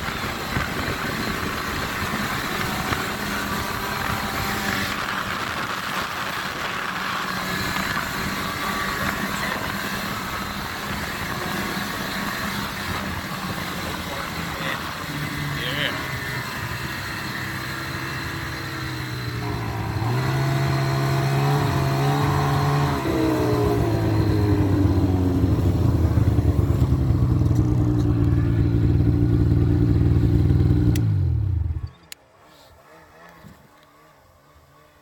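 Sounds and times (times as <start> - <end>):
snowmobile engine running: 0.0 - 35.0.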